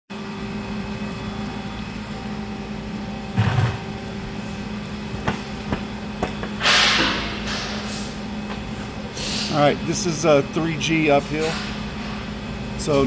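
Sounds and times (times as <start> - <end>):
machine hum: 0.1 - 12.9.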